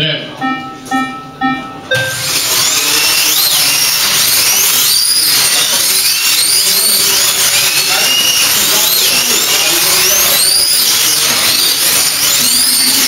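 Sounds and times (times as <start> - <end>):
slot car motors whining: 0.6 - 13.0.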